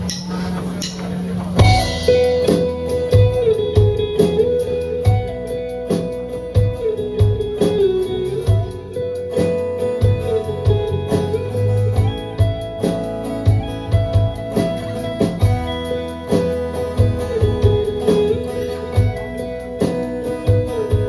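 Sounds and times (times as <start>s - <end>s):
live rock band playing: 0.0s - 21.0s
bending lead guitar melody: 1.6s - 21.0s.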